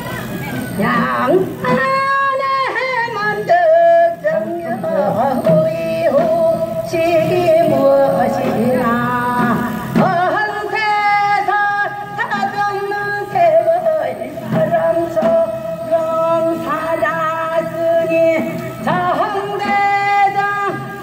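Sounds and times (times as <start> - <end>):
traditional instrumental accompaniment: 0.0 - 21.0
folk singing with wide vibrato: 0.6 - 21.0.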